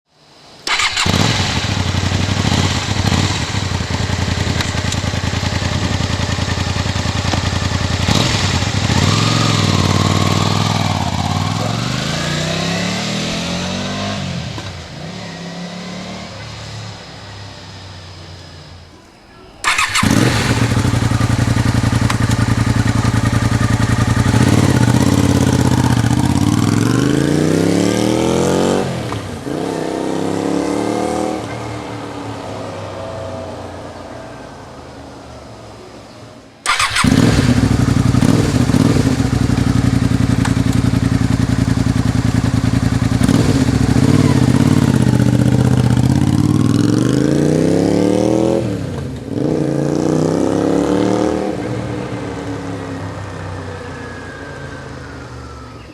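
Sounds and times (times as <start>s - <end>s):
motorcycle engine revving: 0.6s - 18.4s, 19.6s - 33.0s, 36.6s - 55.9s.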